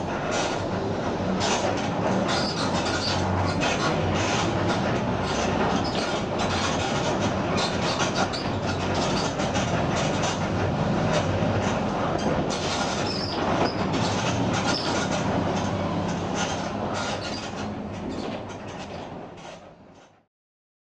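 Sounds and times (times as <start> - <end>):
bus diesel engine humming: 0.0 - 18.2
road noise: 0.0 - 19.2.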